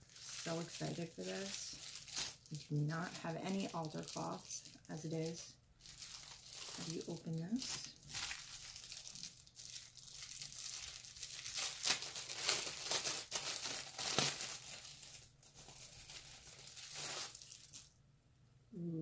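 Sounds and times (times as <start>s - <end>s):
packaging tearing: 0.0s - 2.7s, 3.5s - 17.9s
packaging rustling and crinkling: 0.0s - 18.0s.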